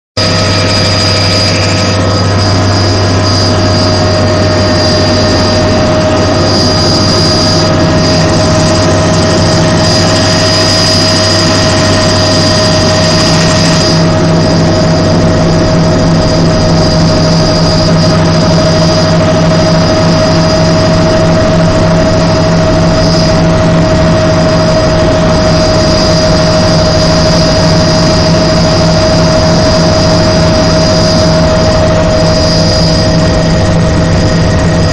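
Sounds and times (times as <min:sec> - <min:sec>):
helicopter rotor drone: 0:00.2 - 0:34.9
high turbine whine: 0:00.2 - 0:34.9.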